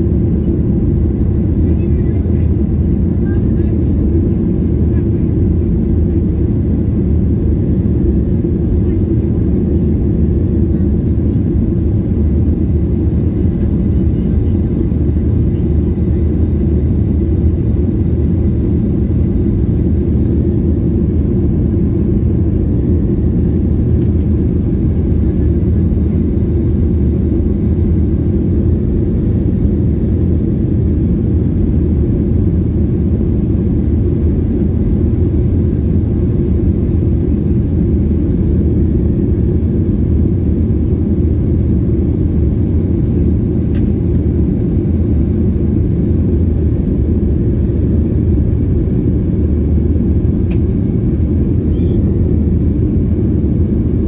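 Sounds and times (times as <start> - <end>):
airflow over fuselage: 0.0 - 54.0
jet engines at climb power: 0.0 - 54.0.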